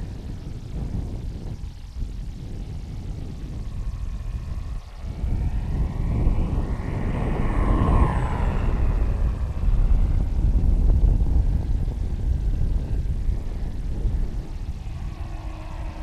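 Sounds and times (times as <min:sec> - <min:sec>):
model plane propeller flying past: 0:00.0 - 0:16.0
wind rumble on microphone: 0:00.0 - 0:16.0.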